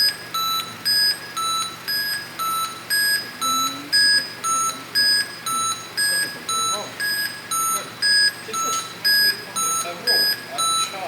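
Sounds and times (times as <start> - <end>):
two-tone alarm beeping: 0.0 - 11.0.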